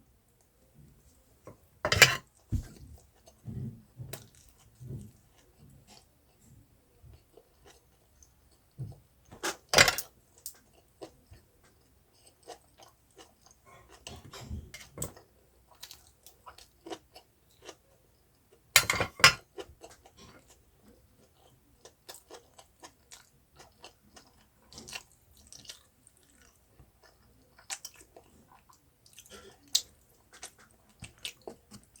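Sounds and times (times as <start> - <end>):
chewing and crunching food: 0.4 - 32.0.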